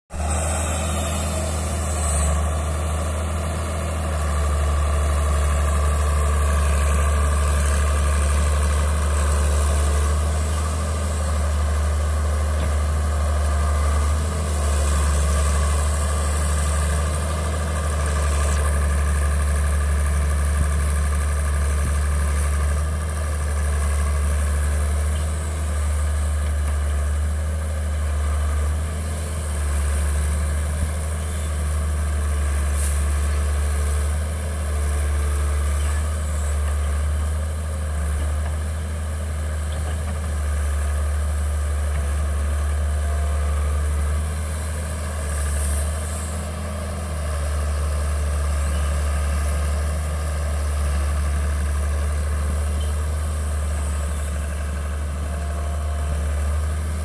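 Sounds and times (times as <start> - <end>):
excavator diesel engine running: 0.1 - 57.0.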